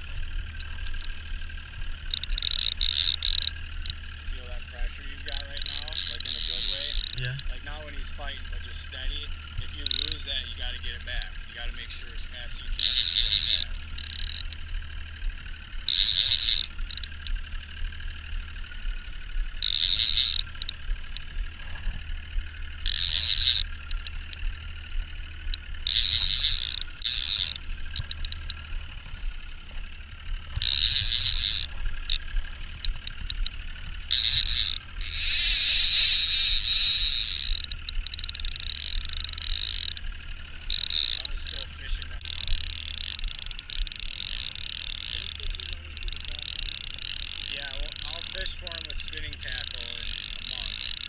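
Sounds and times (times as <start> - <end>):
fishing reel ratcheting: 0.0 - 51.0
steady low hum: 0.0 - 51.0.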